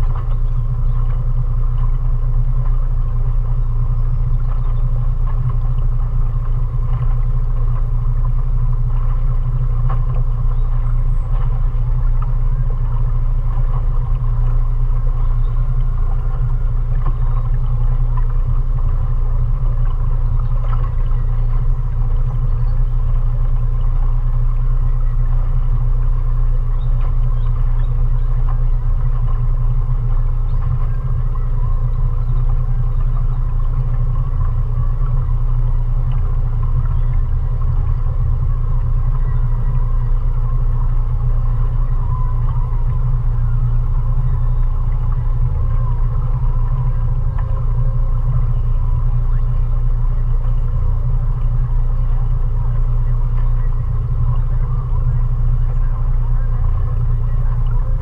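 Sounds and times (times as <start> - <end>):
outboard motor droning: 0.0 - 58.0.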